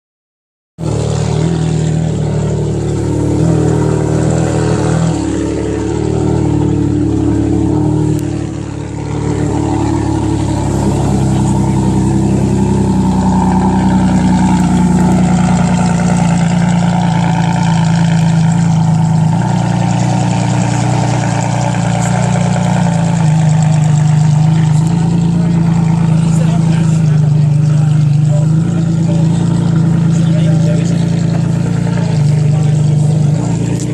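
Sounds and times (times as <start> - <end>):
sports car engine and exhaust: 0.8 - 33.9.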